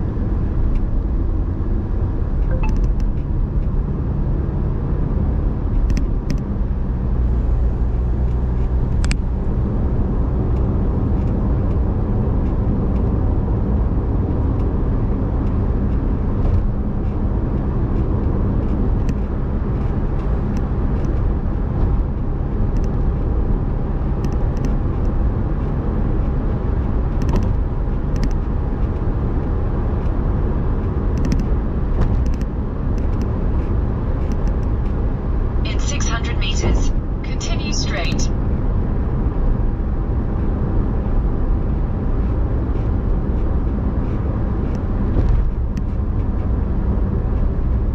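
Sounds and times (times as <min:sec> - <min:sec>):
road rumble: 0:00.0 - 0:47.9.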